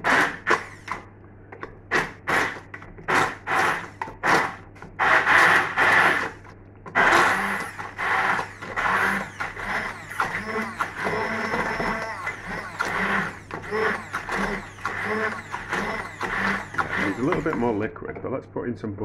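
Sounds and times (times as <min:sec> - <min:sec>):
blender motor whirring: 0:00.0 - 0:01.1, 0:01.9 - 0:17.9.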